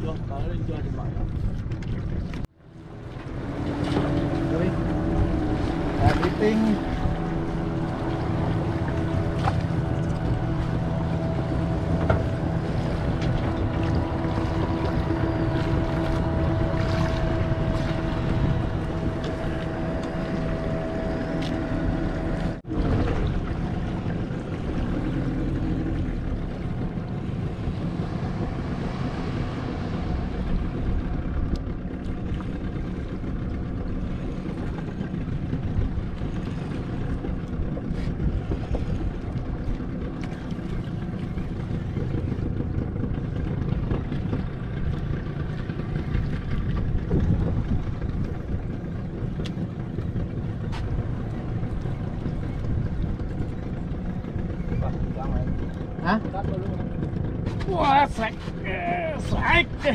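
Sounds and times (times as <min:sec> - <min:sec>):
boat engine running: 0:00.0 - 0:59.9
water noise: 0:00.0 - 0:59.9
wind: 0:00.0 - 0:59.9.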